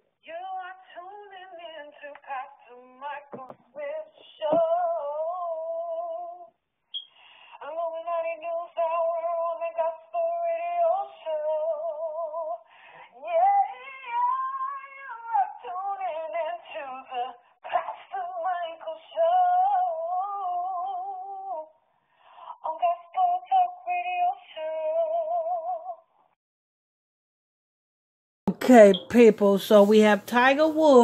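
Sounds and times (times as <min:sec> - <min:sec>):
woman singing with vibrato: 0:00.2 - 0:06.5, 0:07.6 - 0:21.7, 0:22.5 - 0:26.0, 0:28.5 - 0:31.0.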